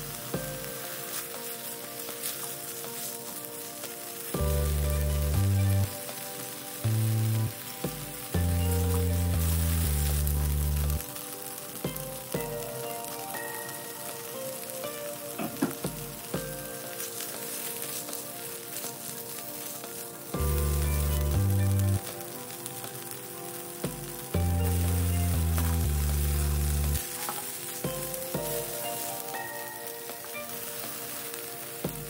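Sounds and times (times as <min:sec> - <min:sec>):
background music with deep bass: 0:00.0 - 0:32.0
chicken sizzling in a pan: 0:00.0 - 0:32.0.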